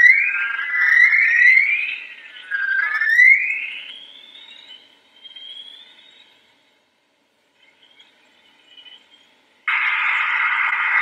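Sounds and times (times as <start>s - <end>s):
eerie gliding whistling tones: 0.0s - 6.5s, 7.6s - 11.0s.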